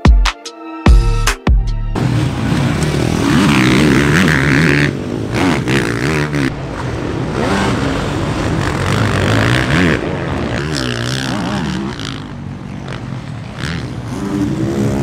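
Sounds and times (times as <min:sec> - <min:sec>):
motocross bike engine revving: 0:02.0 - 0:15.0.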